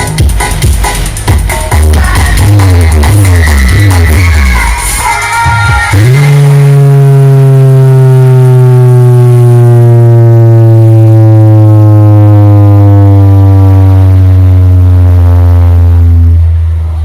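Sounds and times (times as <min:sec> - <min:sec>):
loud deep bass tone: 0:00.0 - 0:17.0.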